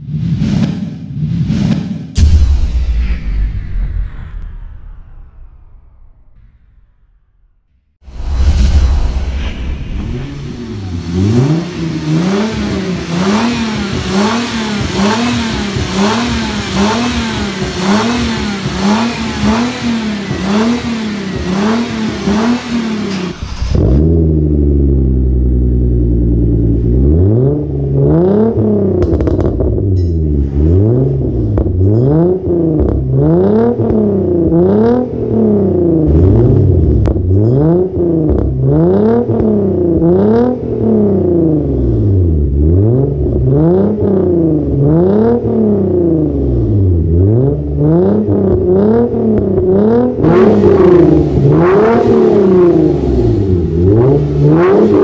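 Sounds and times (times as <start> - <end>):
engine revving in blips: 10.0 - 55.0.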